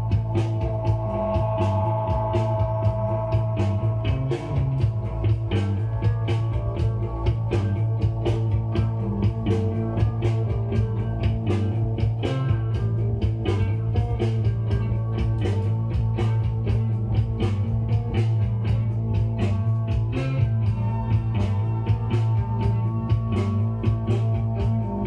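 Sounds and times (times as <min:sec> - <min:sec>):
rock music from a record: 0:00.0 - 0:25.0.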